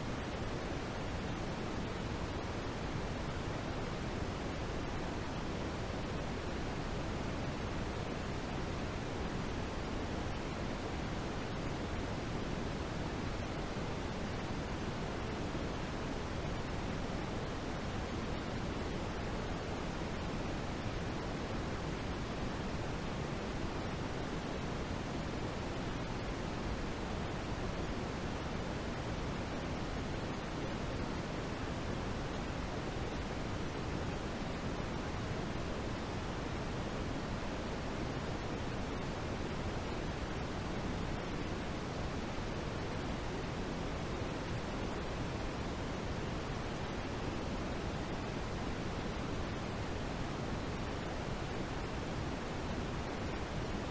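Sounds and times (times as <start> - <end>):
steady white noise hiss: 0.0 - 53.9.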